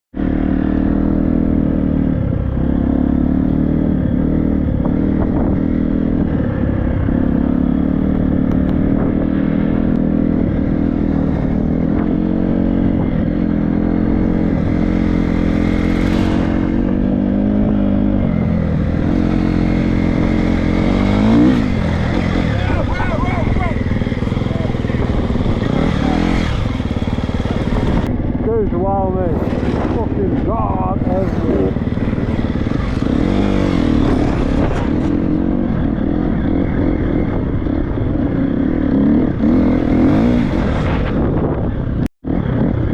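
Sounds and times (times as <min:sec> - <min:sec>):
motocross bike engine revving: 0:00.2 - 0:42.9.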